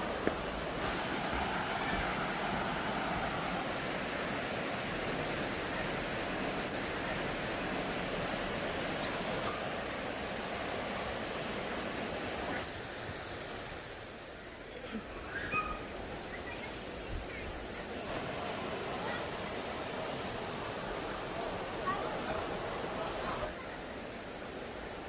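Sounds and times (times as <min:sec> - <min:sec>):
stream rushing over rocks: 0:00.0 - 0:15.3, 0:15.9 - 0:25.0
thin high steady hiss: 0:00.0 - 0:25.0.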